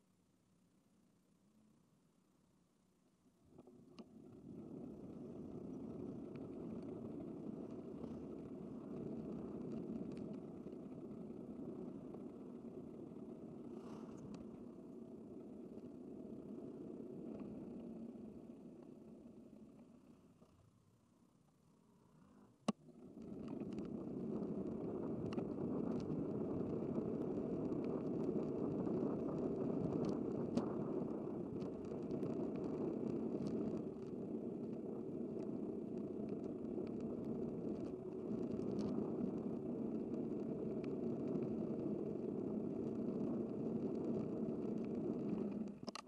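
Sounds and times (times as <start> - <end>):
wind and bicycle road noise: 3.5 - 20.5, 22.0 - 46.0
faint ticks: 3.5 - 20.7, 22.0 - 46.0.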